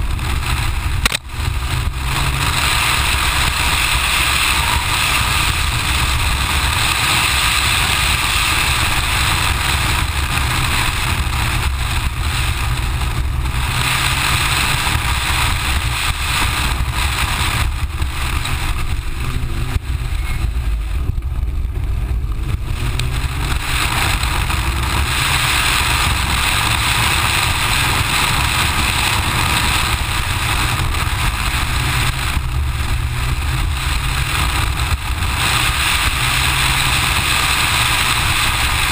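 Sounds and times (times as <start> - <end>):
car engine under load: 0.0 - 38.9
wind rushing on microphone: 0.0 - 38.9.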